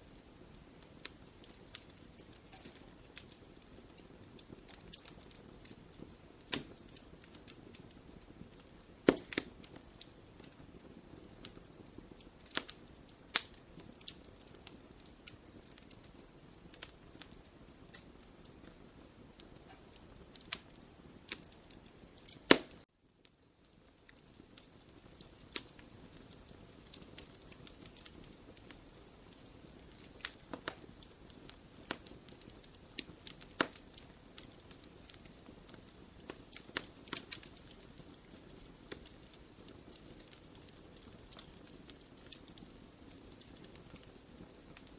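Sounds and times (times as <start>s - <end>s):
fire pops and snaps: 0.0s - 44.9s
low steady hiss: 0.0s - 44.9s
wood fire crackling: 0.0s - 44.9s.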